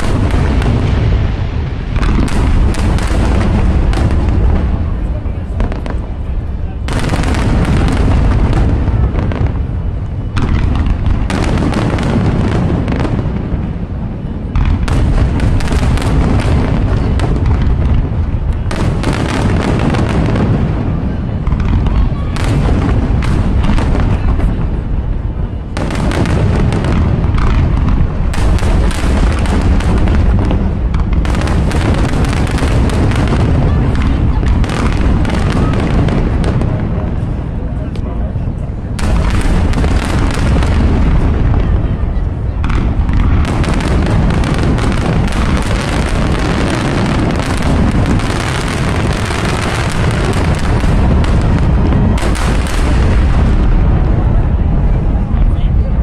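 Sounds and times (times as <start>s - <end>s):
fireworks booming and crackling: 0.0s - 56.0s.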